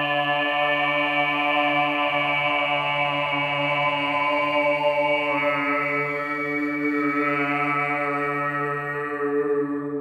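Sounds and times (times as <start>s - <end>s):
man singing a low drone: 0.0s - 10.0s.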